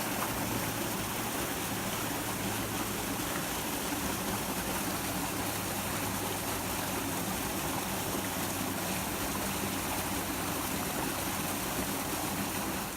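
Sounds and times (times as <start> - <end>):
stream flowing: 0.0 - 12.9.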